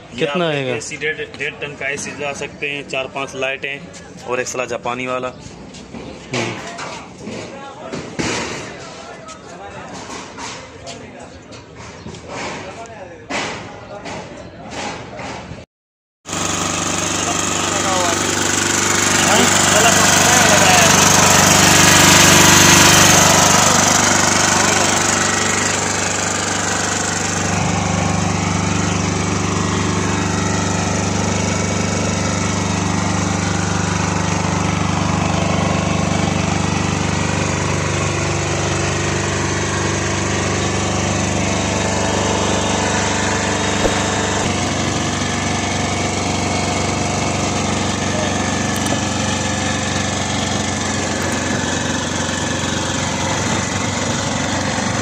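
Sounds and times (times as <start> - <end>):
diesel generator running: 0.0 - 7.7, 16.2 - 55.0.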